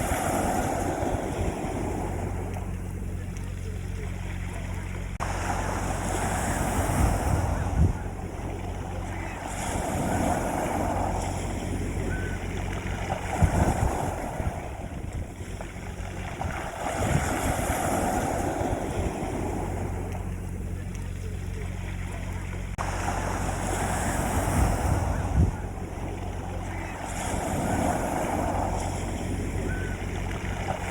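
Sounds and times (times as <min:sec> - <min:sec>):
sea waves breaking on beach: 0:00.0 - 0:30.9
steady low hum: 0:00.0 - 0:30.9.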